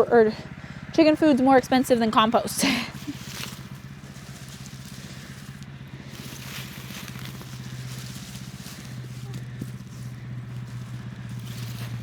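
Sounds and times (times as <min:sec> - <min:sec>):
small gasoline engine running: 0:00.0 - 0:12.0.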